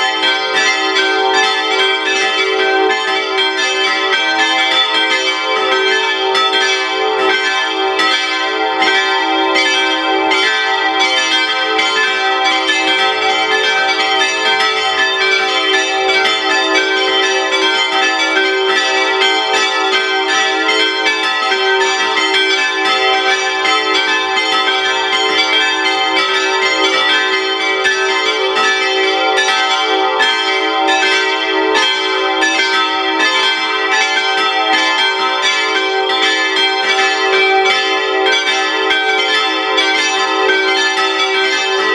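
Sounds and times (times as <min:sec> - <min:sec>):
church bells ringing: 0:00.0 - 0:41.9.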